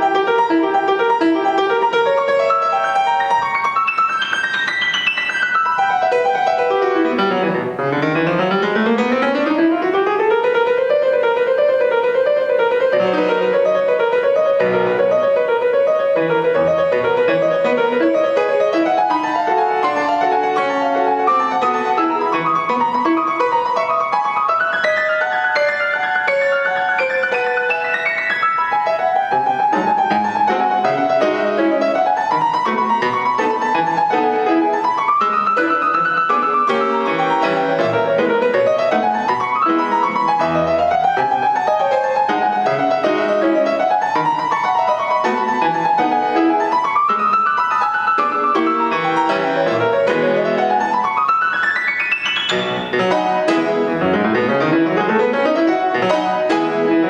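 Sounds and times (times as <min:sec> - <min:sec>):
solo classical piano: 0:00.0 - 0:57.0.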